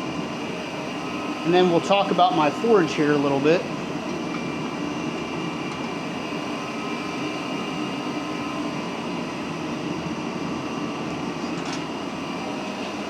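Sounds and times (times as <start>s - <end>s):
gas forge burner rushing: 0.0s - 13.0s.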